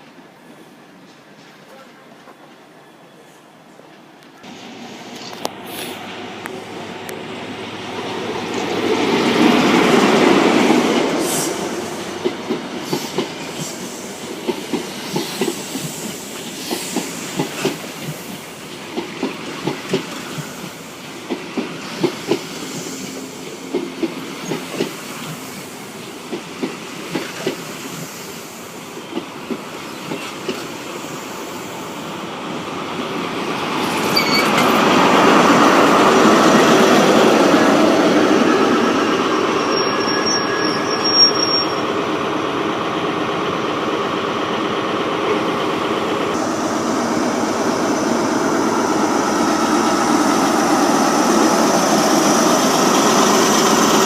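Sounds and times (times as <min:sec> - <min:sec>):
train passing on rails: 0:00.0 - 0:54.0.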